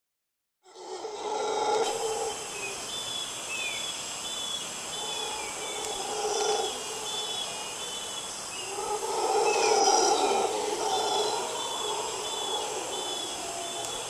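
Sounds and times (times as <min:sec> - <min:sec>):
insect drone: 0:00.7 - 0:14.0
birds calling: 0:00.8 - 0:14.0.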